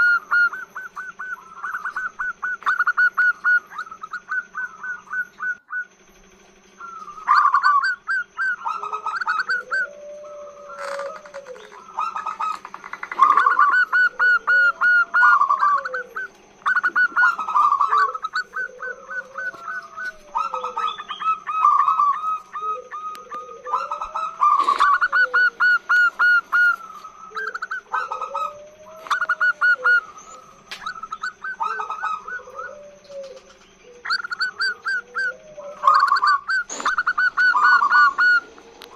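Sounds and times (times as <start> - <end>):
dove cooing: 0.0 - 38.9
faint steady hum: 0.0 - 38.9.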